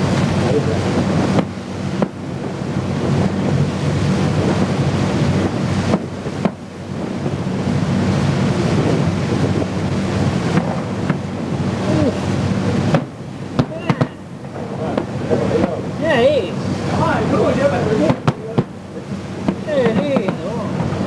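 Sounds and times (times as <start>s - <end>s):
wind buffeting microphone: 0.0s - 21.0s
distant fireworks thuds: 0.2s - 8.1s, 8.8s - 11.7s, 12.4s - 15.9s, 17.9s - 21.0s.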